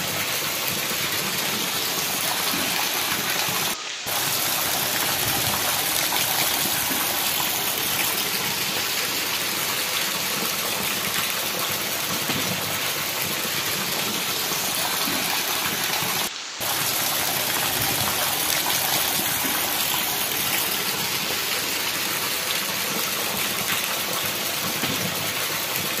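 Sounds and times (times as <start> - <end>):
heavy rain on concrete: 0.0 - 26.0
rainwater running: 0.0 - 26.0.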